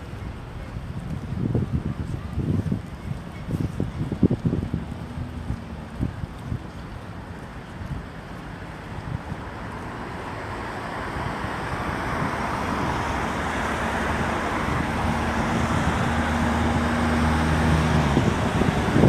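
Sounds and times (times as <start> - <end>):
road traffic going by: 0.0 - 19.0
vehicle engine hum: 0.0 - 19.0
wind on the microphone: 0.0 - 19.0.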